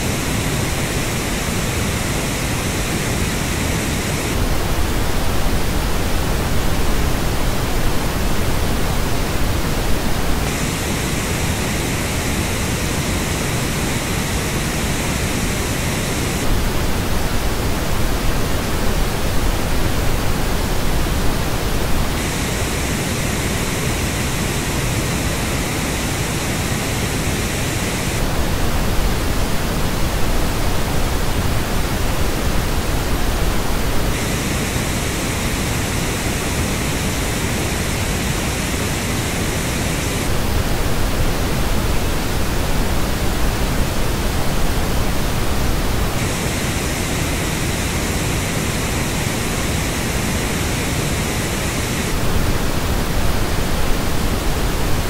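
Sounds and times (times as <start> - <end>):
pink noise test signal: 0.0 - 55.0.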